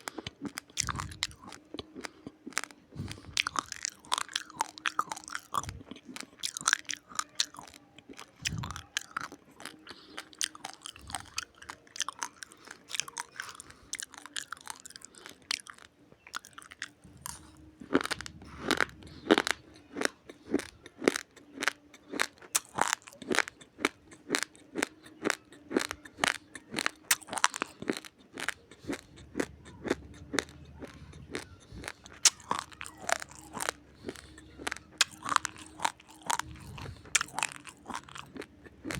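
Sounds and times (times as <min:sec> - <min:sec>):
raw rice being chewed: 0:00.0 - 0:38.9.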